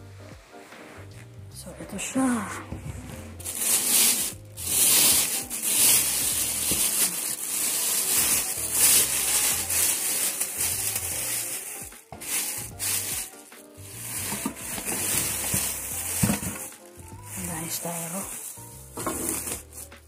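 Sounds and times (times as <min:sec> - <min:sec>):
plastic bag crinkling: 0:03.4 - 0:20.0.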